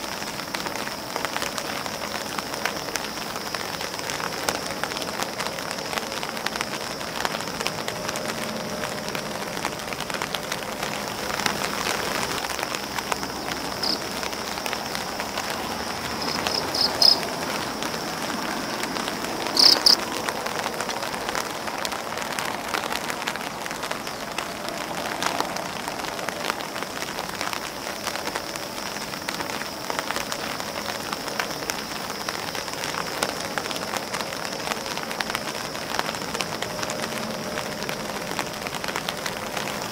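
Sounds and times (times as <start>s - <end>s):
rain patter on leaves and umbrella: 0.0s - 39.9s.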